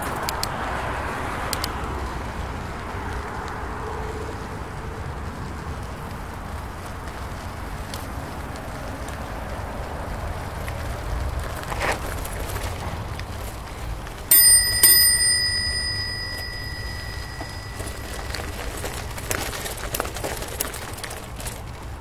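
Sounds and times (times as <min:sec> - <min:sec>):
bicycle tyre rumble: 0:00.0 - 0:22.0
road traffic noise: 0:00.0 - 0:22.0
wind: 0:00.0 - 0:22.0.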